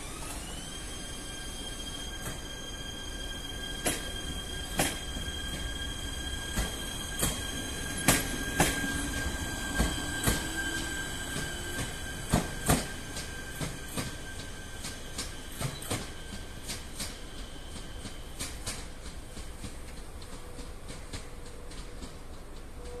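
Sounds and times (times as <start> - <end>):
train high whine: 0.0 - 23.0.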